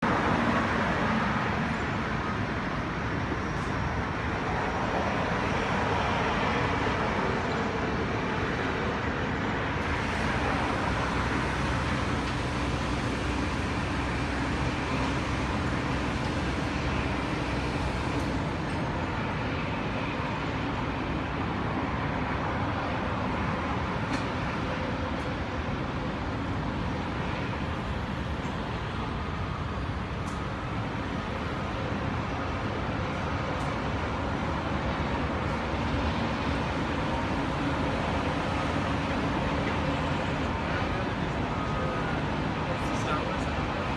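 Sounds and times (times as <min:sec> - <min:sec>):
vehicle rumble and hiss: 0:00.0 - 0:43.9.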